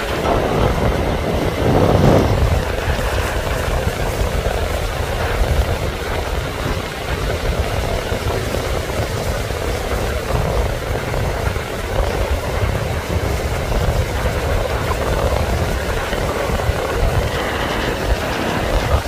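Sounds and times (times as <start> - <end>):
breaking surf: 0.0 - 19.0
wind buffeting microphone: 0.0 - 19.0.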